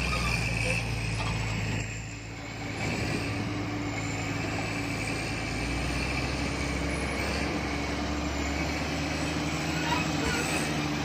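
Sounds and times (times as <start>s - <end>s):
heavy diesel machinery drone: 0.0s - 11.0s.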